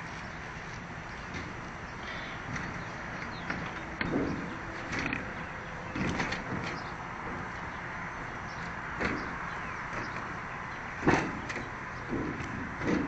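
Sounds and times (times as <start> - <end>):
footsteps on metal roof: 0.0 - 13.0
steady background noise: 0.0 - 13.0.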